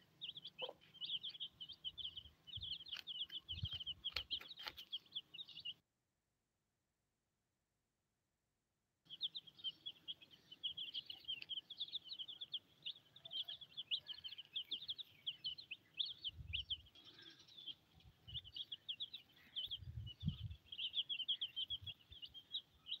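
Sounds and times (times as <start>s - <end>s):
chicks peeping: 0.0s - 5.8s, 9.1s - 23.0s.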